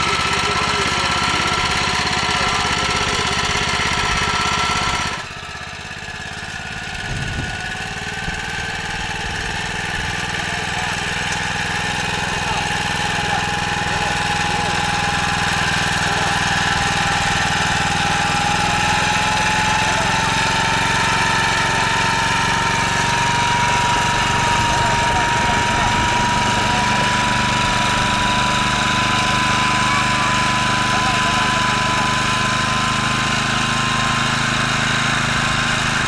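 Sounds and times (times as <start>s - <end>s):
petrol engine running: 0.0s - 36.0s.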